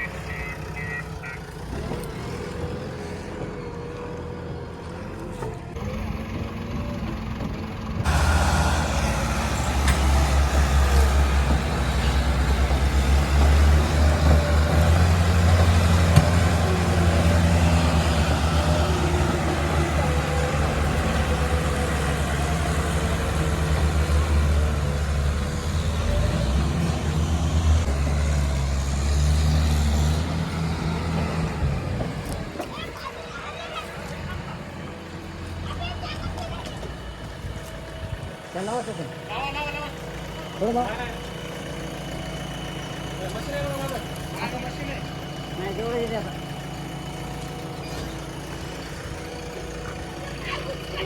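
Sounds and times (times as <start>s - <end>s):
heavy diesel engine rumbling: 0.0s - 51.0s.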